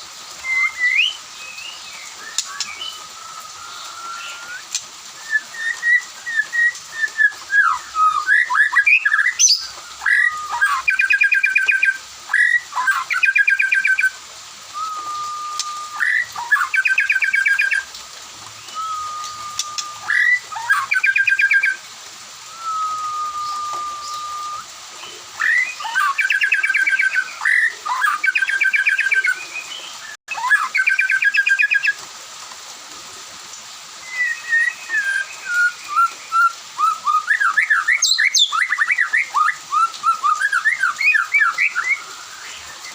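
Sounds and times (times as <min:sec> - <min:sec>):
bird singing trills and whistles: 0:00.4 - 0:17.9, 0:18.6 - 0:21.8, 0:22.5 - 0:32.0, 0:34.0 - 0:42.9.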